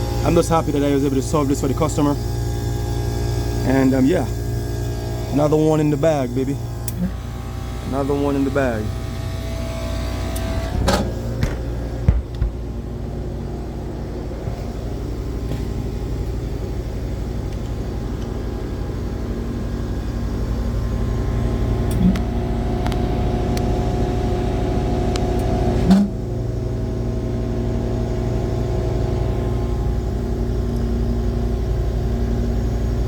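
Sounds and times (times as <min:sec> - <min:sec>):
hvac unit humming: 0:00.0 - 0:33.0.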